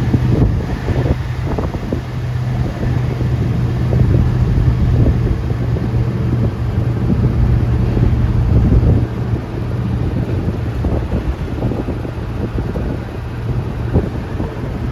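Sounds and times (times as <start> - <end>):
low mechanical hum: 0.0 - 14.9
wind rumbling on microphone: 0.0 - 14.9.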